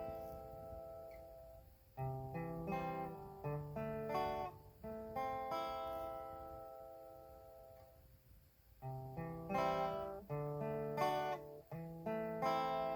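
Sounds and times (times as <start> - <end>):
acoustic guitar music: 0.0 - 12.9.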